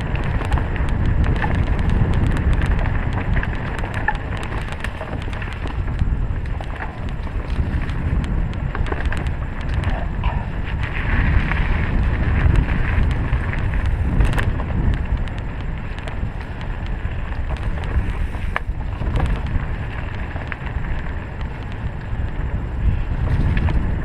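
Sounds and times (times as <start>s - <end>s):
bike clicks and rattles: 0.0s - 24.0s
bike tyres rumbling over dirt: 0.0s - 24.0s
wind buffeting microphone: 0.0s - 24.0s.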